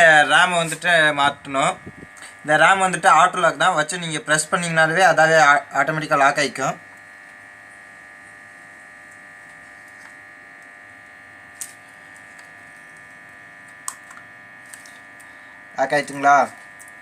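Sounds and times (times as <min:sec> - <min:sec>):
steady electrical whine: 0:00.0 - 0:17.0.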